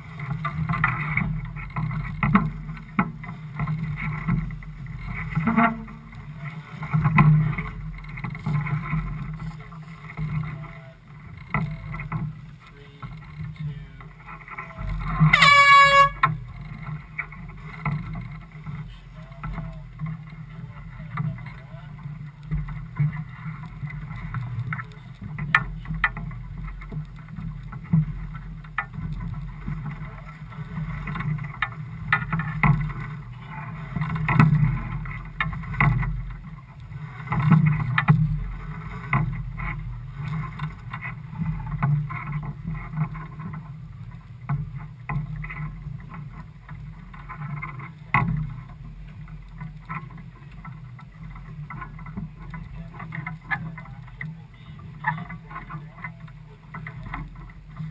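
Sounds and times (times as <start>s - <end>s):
boat engine humming: 0.0s - 57.9s
wind and water noise: 0.0s - 57.9s.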